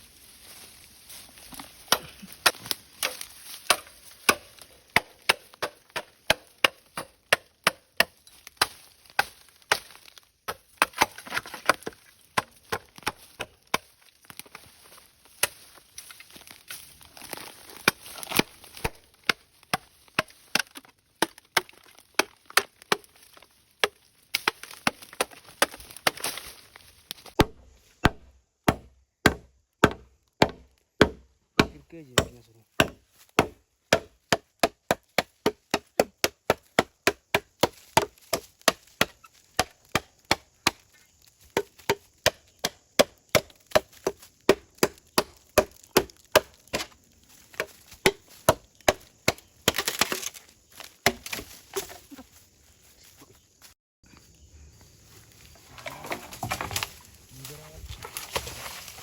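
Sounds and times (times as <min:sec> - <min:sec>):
blade chopping bamboo: 0:01.5 - 0:14.7, 0:15.3 - 0:26.6, 0:27.2 - 0:52.0.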